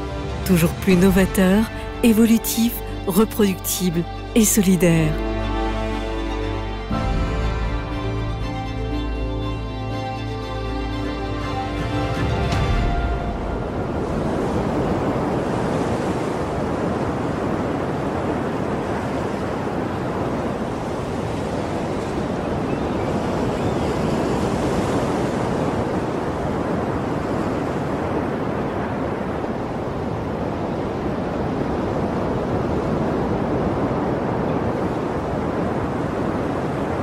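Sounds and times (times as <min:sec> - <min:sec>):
sea waves and surf: 0:00.0 - 0:37.0.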